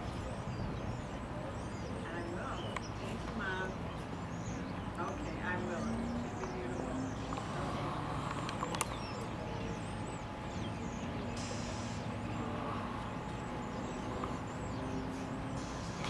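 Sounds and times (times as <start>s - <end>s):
engines and traffic rumble: 0.0s - 16.0s
small birds chirping: 0.0s - 16.0s.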